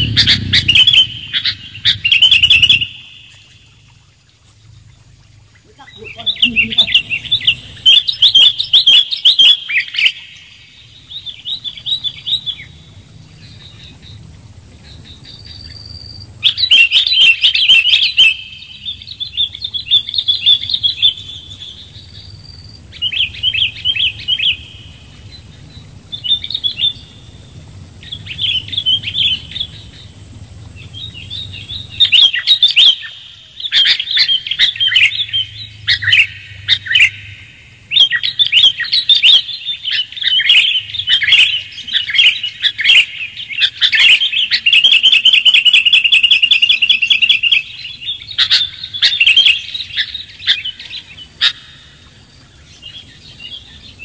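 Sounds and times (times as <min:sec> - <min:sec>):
bulbuls chirping: 0:00.0 - 0:54.0.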